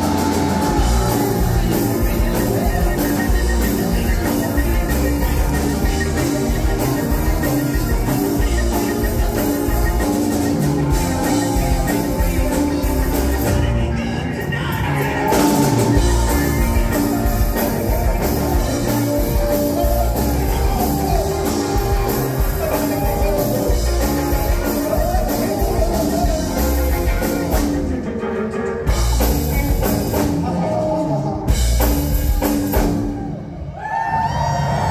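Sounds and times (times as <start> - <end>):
man singing lead: 0.0 - 32.9
live rock band playing: 0.0 - 34.9.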